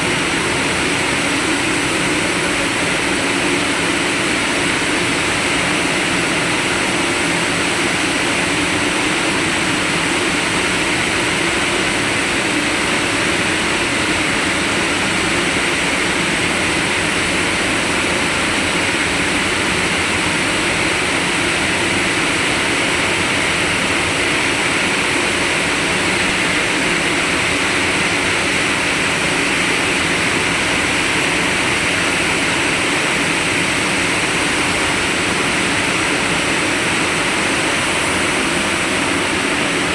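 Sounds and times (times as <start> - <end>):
heavy machinery hum: 0.0 - 39.9.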